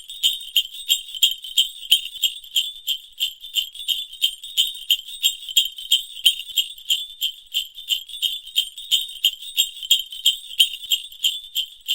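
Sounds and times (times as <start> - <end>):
sleigh bells jingling: 0.0 - 11.9.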